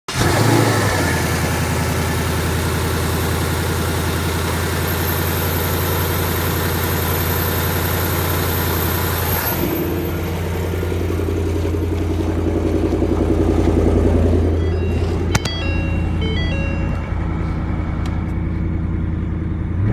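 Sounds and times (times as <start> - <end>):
car engine starting and idling: 0.1 - 19.9.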